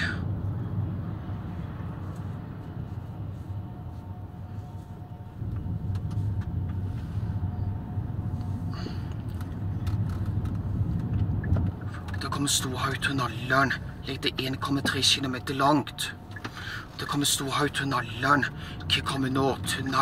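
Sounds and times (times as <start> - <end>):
car cabin engine and tyre rumble: 0.0 - 20.0.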